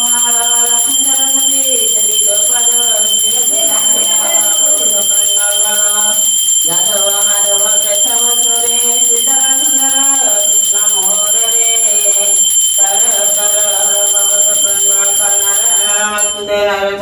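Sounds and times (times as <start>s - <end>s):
bell ringing: 0.0s - 17.0s.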